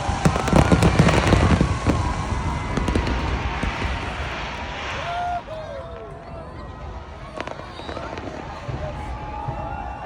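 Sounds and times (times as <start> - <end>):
sharp firework cracks: 0.0 - 6.2, 7.2 - 10.0
fireworks rumble and crackle: 0.0 - 10.0.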